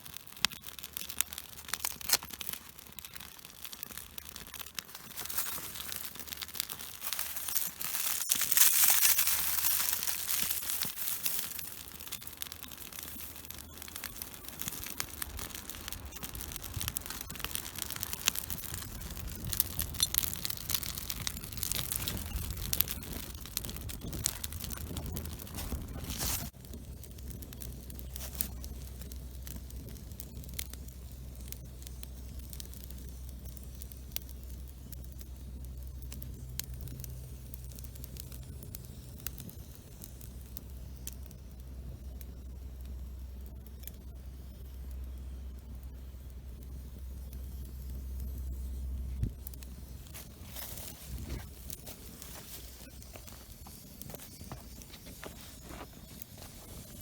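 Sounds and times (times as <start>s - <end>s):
bark and twigs crackling: 0.0s - 57.0s.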